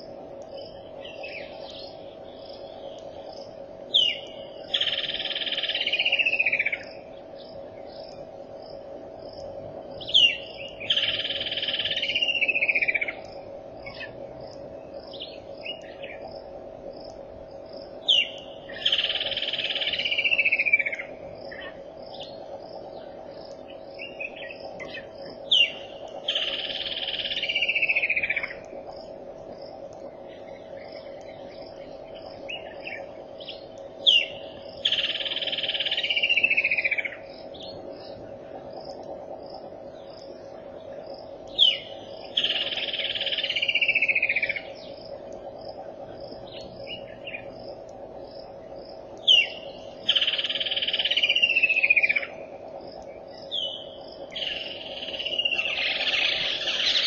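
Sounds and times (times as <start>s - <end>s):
faint high ticking: 0.0s - 57.0s
soft bird chirps: 0.4s - 8.8s, 9.4s - 16.4s, 17.8s - 57.0s.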